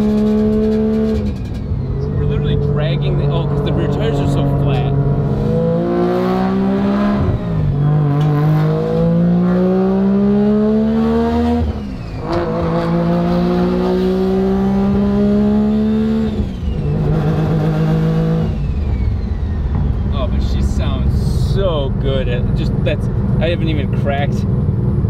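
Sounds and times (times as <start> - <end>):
rotary engine revving: 0.0 - 23.9.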